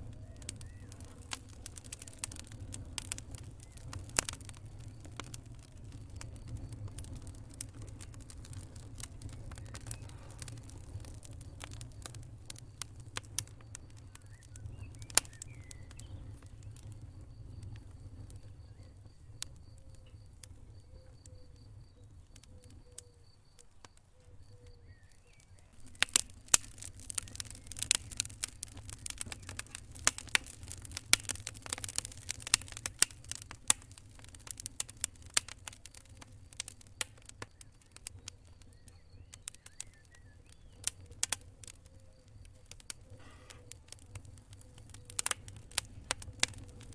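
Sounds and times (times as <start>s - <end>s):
low rumble of flame: 0.0s - 46.9s
wood fire crackling and popping: 0.0s - 46.9s.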